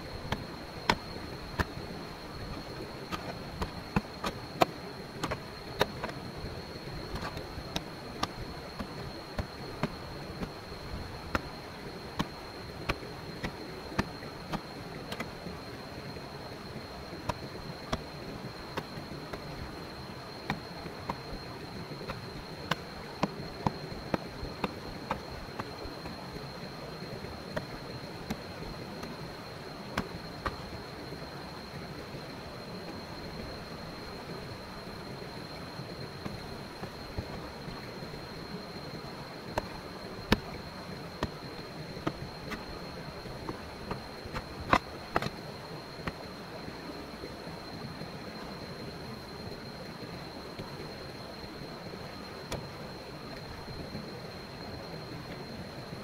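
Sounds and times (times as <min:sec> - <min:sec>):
faint high steady tone: 0:00.0 - 0:56.0
high-pitched insect drone: 0:00.0 - 0:56.0
steady hiss: 0:00.0 - 0:56.0.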